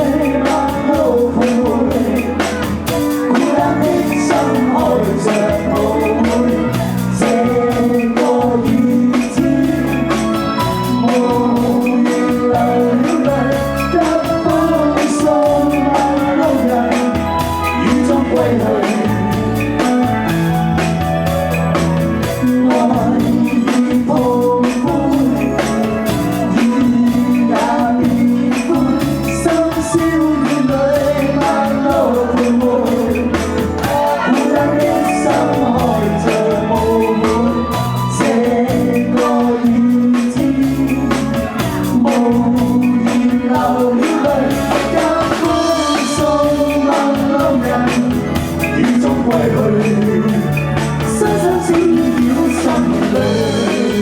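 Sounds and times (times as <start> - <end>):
live band playing pop song: 0.0 - 54.0
person singing: 0.0 - 54.0.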